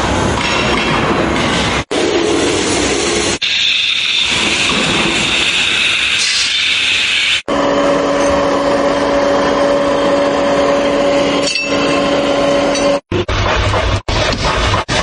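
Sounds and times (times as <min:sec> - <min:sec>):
workshop noise: 0:00.0 - 0:15.0.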